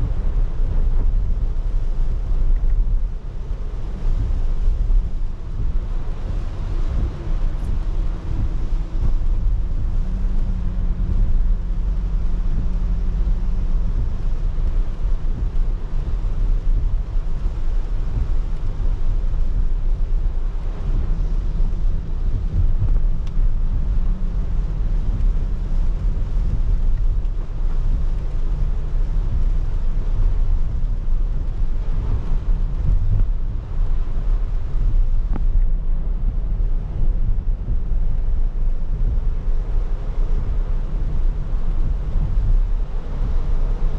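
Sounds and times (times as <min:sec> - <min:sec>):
faint engine hum: 0:00.0 - 0:43.9
rain hiss: 0:00.0 - 0:43.9
tyre noise on wet road: 0:00.0 - 0:43.9.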